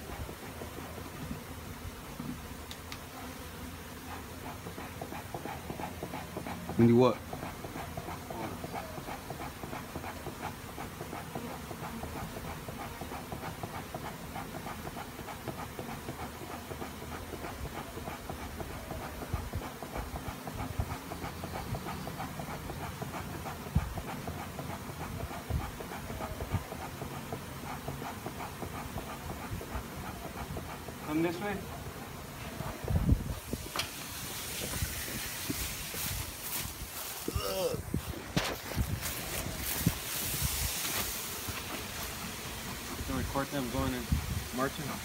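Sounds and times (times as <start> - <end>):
bees buzzing: 0.0 - 45.0.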